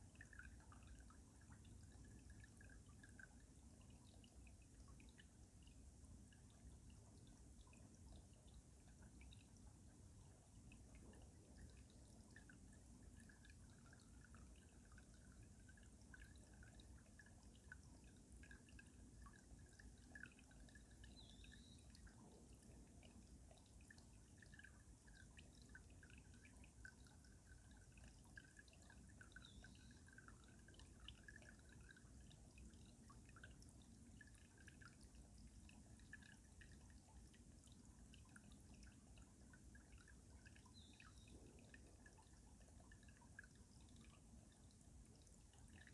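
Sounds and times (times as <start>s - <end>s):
stream trickling under ice: 0.0s - 45.9s
water dripping and bubbling: 0.0s - 45.9s.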